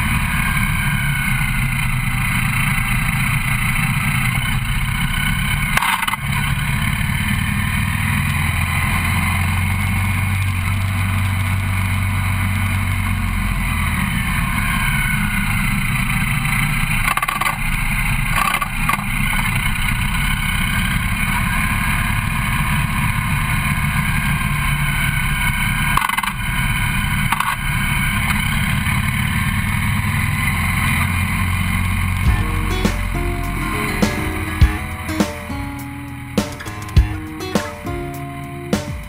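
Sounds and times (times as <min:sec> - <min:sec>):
motorcycle engine rumble: 0:00.0 - 0:39.0.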